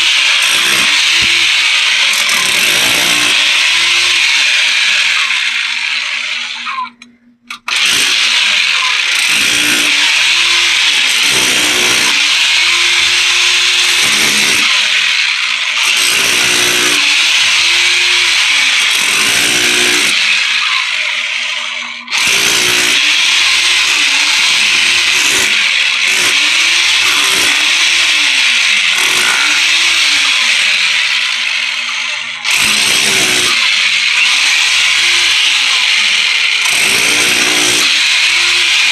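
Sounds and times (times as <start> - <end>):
electric chipping hammer breaking floor: 0.0 - 38.9.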